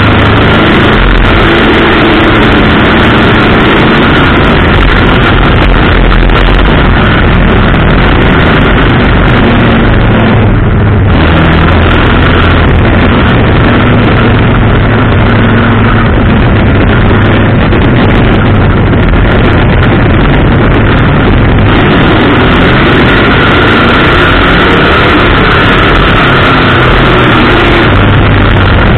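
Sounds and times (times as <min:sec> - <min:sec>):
high-pitched whine: 0:00.0 - 0:28.9
race car engine running: 0:00.0 - 0:28.9.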